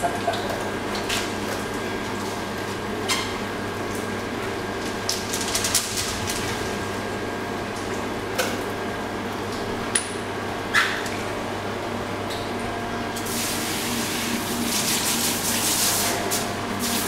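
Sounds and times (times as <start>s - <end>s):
steady echoing room noise: 0.0s - 17.0s.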